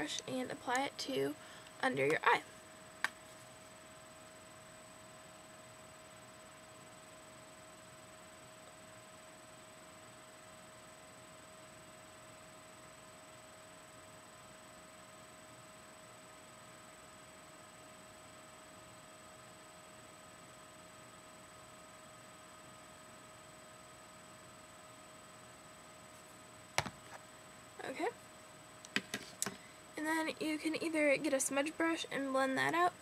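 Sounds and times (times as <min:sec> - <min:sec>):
faint high electronic hum: 0:00.0 - 0:33.0.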